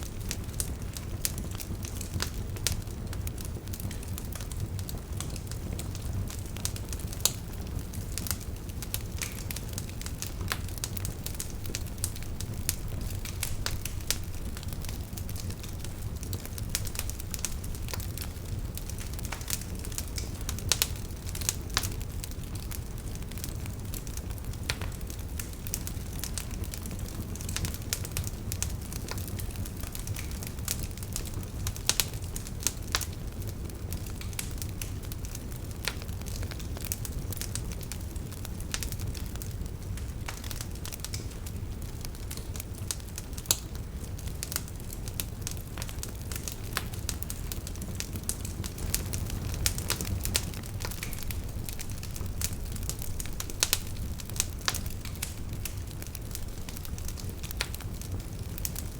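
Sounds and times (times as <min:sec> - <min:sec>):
fire crackling and popping: 0:00.0 - 0:58.9
fire flames rumbling: 0:00.0 - 0:58.9.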